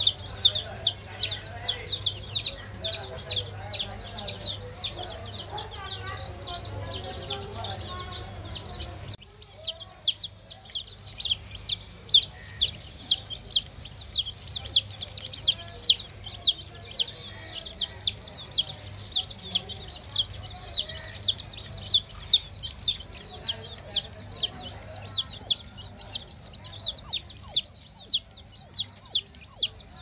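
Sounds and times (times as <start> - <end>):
baby chicks peeping: 0.0 - 30.0.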